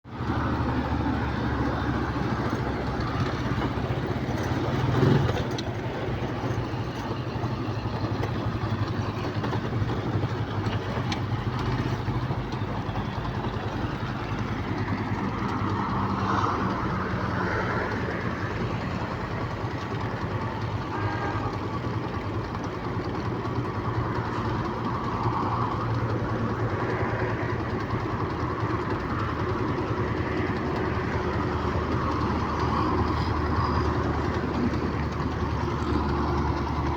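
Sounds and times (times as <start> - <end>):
engine running with low hum: 0.0 - 36.9.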